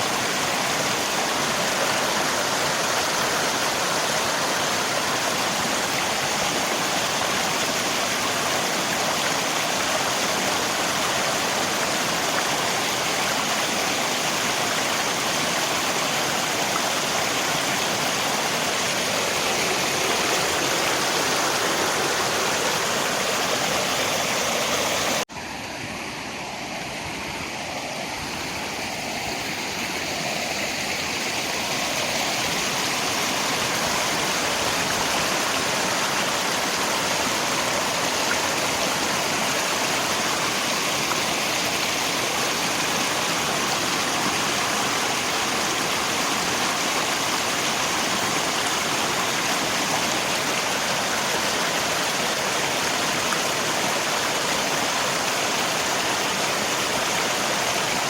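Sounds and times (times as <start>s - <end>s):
rain: 0.0s - 25.3s, 26.8s - 58.0s
river water rushing: 0.0s - 58.0s.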